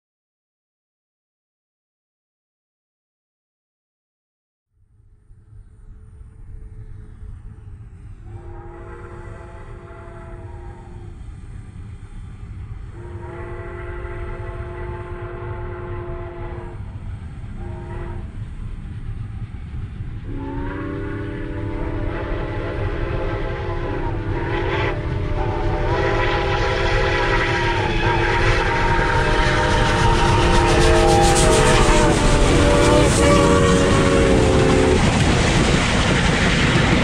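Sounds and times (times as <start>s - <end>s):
steam train rumbling: 4.9s - 37.0s
steam locomotive whistles: 6.1s - 19.0s, 20.2s - 37.0s.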